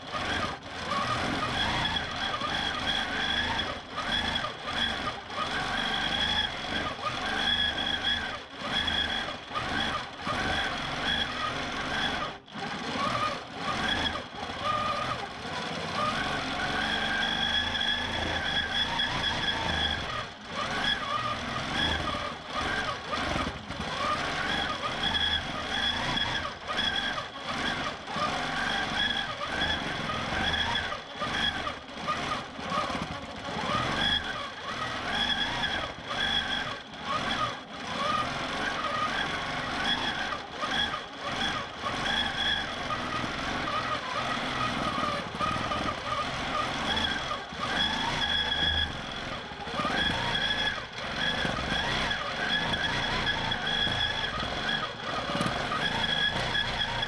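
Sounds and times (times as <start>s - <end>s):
quilting machine motor whine: 0.0s - 57.0s.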